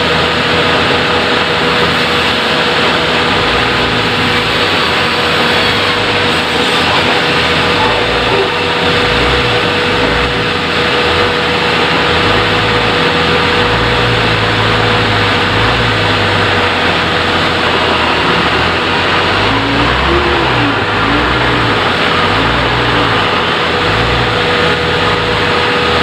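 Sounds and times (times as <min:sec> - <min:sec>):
sawmill machinery whine and drone: 0:00.0 - 0:26.0.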